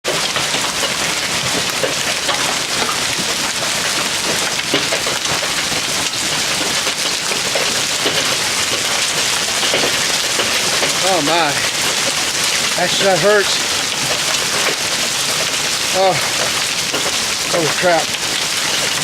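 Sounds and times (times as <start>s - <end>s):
hail clattering: 0.0s - 19.0s.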